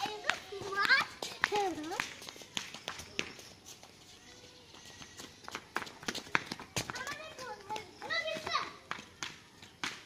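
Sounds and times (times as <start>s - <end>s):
children running on wet concrete: 0.0s - 10.0s.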